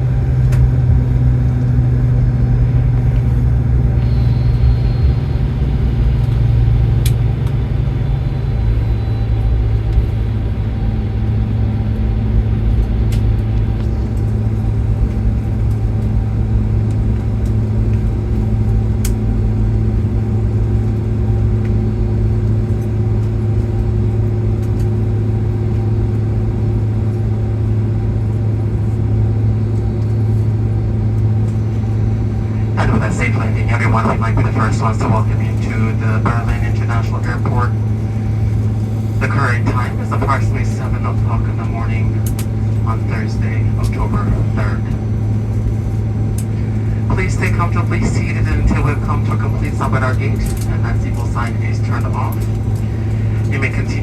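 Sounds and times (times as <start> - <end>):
aircraft engines and wheels rumbling: 0.0 - 54.0
steady cabin hum: 0.0 - 54.0.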